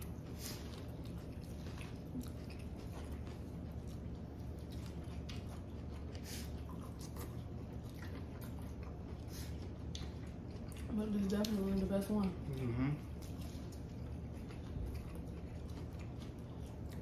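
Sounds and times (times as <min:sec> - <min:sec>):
people chewing: 0:00.0 - 0:17.0
steady low hum: 0:00.0 - 0:17.0.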